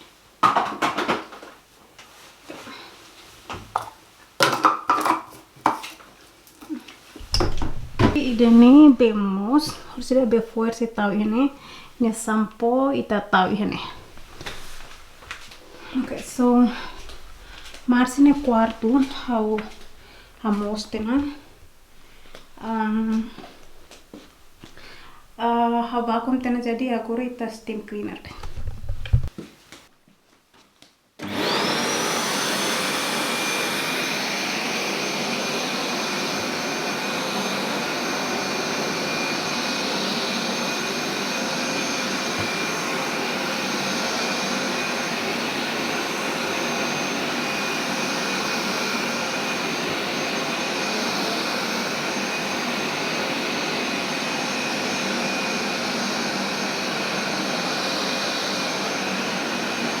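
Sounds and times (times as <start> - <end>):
steam cleaner motor whine: 7.2 - 29.3, 31.2 - 60.0.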